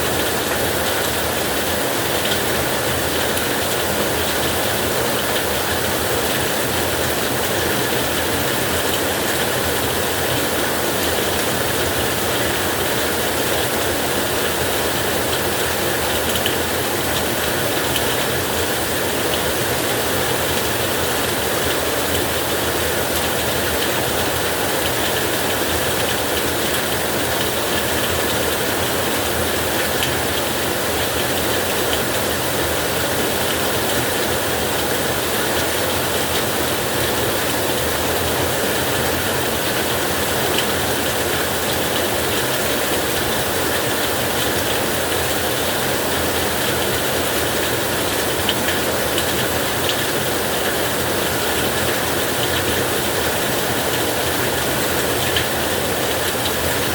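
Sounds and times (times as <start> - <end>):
heavy rain on a tin roof: 0.0 - 56.9.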